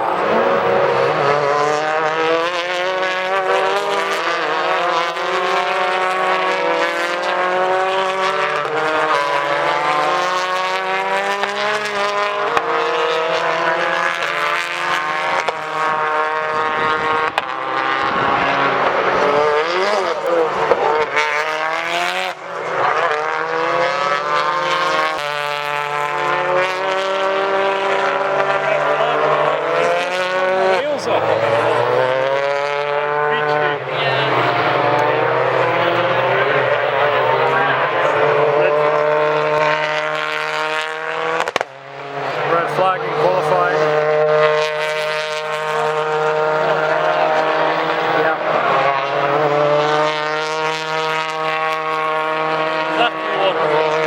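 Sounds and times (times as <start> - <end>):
race cars passing at speed: 0.0 - 54.0.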